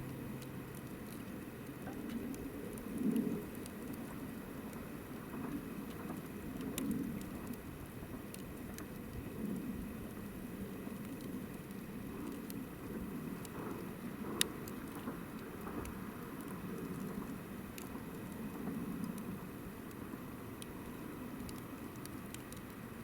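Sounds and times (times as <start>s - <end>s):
campfire crackling: 0.0s - 23.0s
low rumble of flame: 0.0s - 23.0s.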